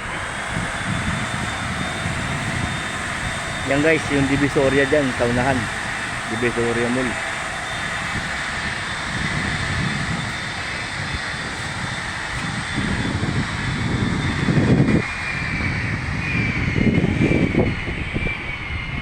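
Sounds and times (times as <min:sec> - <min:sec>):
low rumbling surges: 0:00.0 - 0:19.0
machine drone with high whine: 0:00.0 - 0:19.0.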